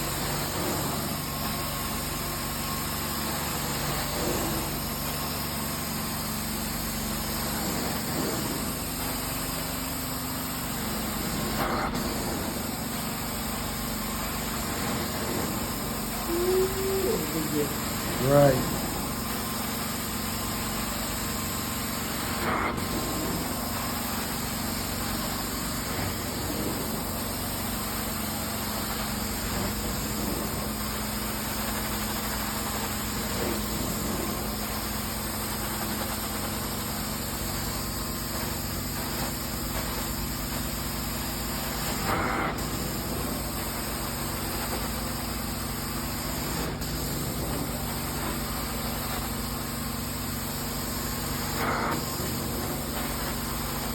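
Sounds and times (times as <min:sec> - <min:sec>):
carpet cleaning machine droning: 0:00.0 - 0:53.9.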